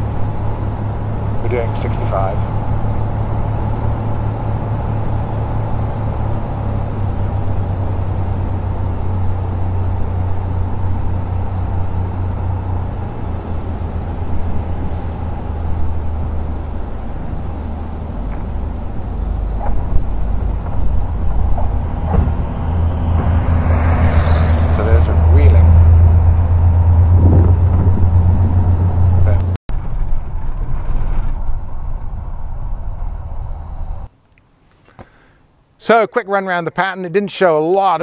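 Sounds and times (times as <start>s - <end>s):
airplane engine and propeller drone: 0.0s - 34.1s.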